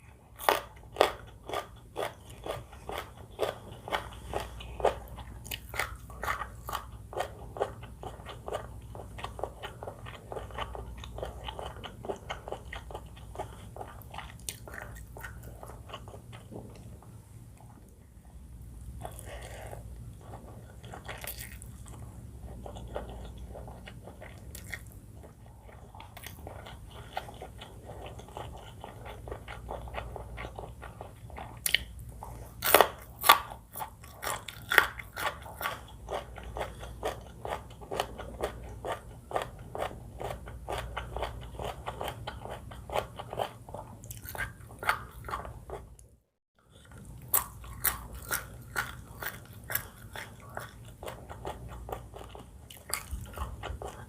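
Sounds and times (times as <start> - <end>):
chewing noodles: 0.1 - 16.8, 18.9 - 54.0.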